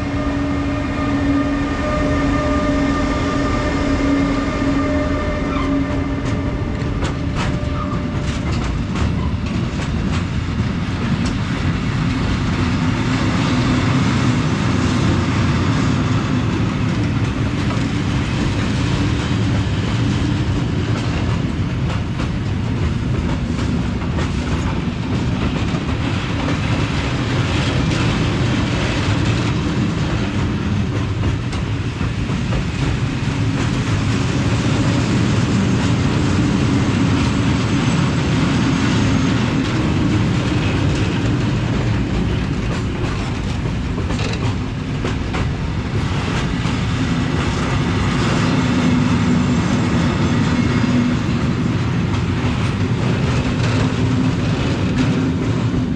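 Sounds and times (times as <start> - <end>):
freight train wheels clicking: 0.0 - 55.9.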